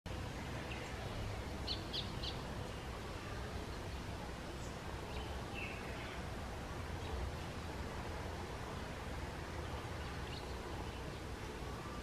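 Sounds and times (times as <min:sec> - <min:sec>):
outdoor background hiss: 0:00.1 - 0:12.0.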